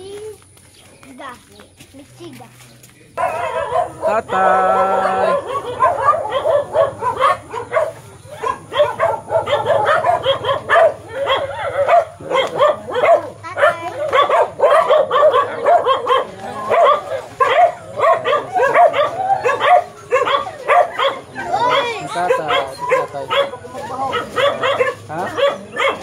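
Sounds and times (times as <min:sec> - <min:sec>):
dogs barking: 0:03.2 - 0:26.0.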